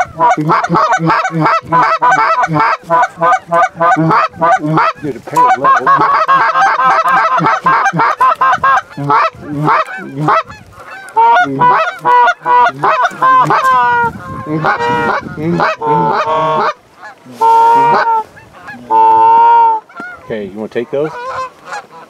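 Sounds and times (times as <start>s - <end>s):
goose calls honking and clucking: 0.0s - 22.0s.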